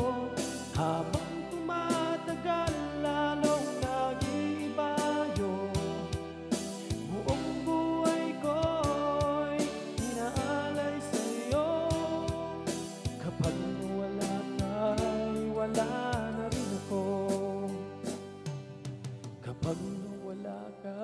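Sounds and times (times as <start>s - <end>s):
man singing: 0.0s - 18.0s, 19.4s - 21.0s
backing track with drum beat: 0.0s - 20.2s.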